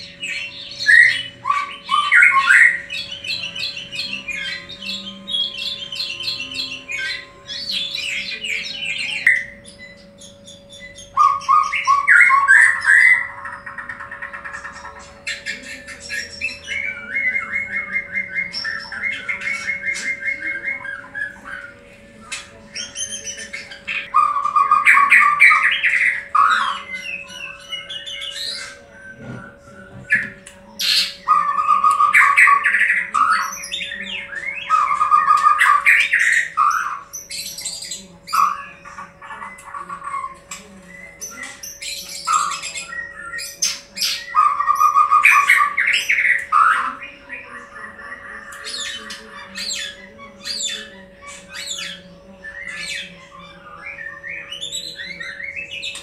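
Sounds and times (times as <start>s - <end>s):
bird trilling: 0.0s - 56.0s
faint steady hum: 0.0s - 56.0s
songbird singing: 0.0s - 56.0s.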